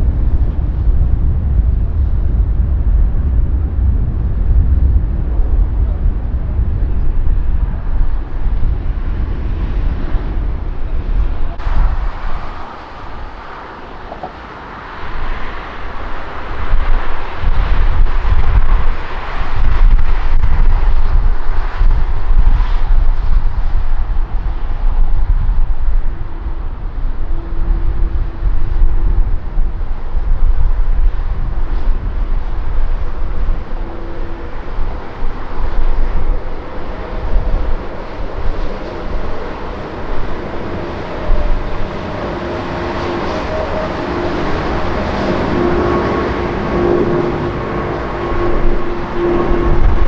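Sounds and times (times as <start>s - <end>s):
jet engine rumble: 0.0s - 50.0s
wind buffeting microphone: 0.0s - 50.0s.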